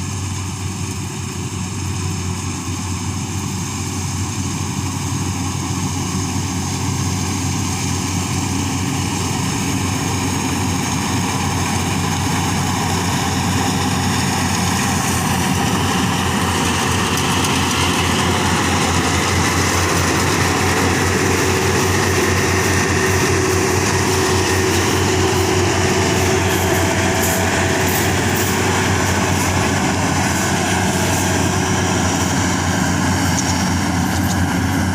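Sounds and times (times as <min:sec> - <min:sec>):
combine harvester droning: 0:00.0 - 0:34.9.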